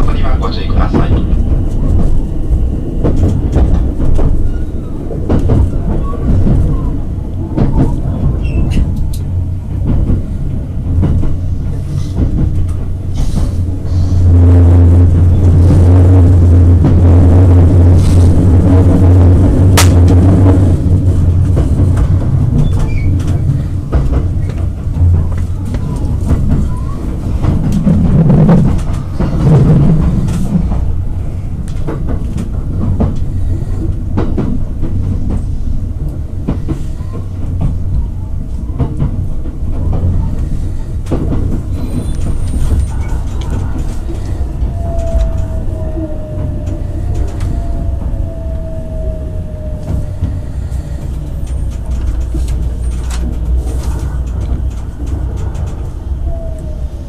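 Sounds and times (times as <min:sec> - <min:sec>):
train low rumble: 0:00.0 - 0:57.0
wheels clicking on track: 0:00.0 - 0:57.0.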